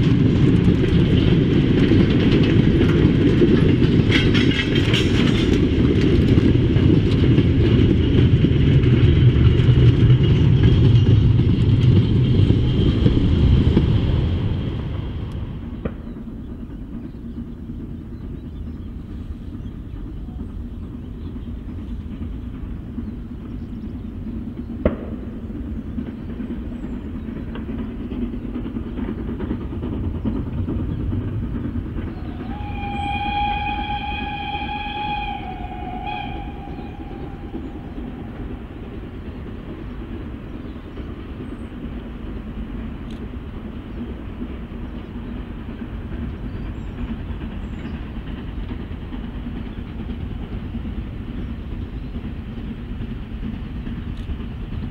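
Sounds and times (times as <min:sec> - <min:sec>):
steam train rumbling: 0:00.0 - 0:54.9.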